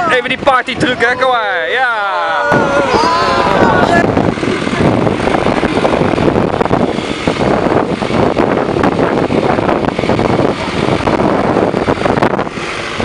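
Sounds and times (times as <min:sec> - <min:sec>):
truck driving on dirt road: 0:00.0 - 0:13.0.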